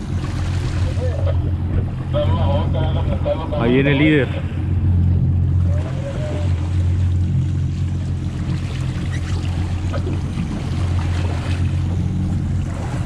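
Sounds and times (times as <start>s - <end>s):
boat engine humming: 0.0s - 13.0s
water noise: 0.0s - 13.0s
wind: 0.0s - 13.0s.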